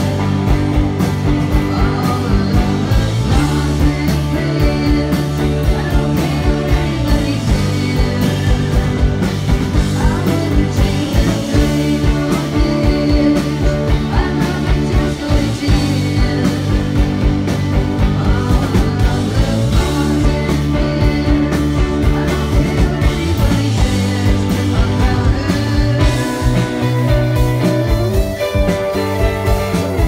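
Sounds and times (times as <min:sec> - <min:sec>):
drums keeping a steady beat: 0:00.0 - 0:30.0
person singing: 0:00.0 - 0:30.0
rock band playing live: 0:00.0 - 0:30.0.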